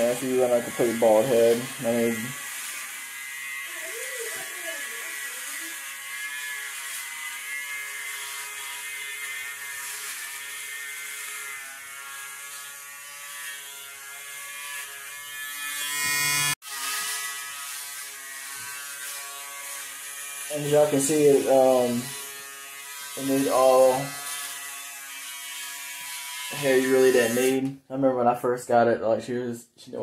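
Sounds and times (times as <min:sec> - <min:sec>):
electric shaver buzzing: 0:00.0 - 0:27.7.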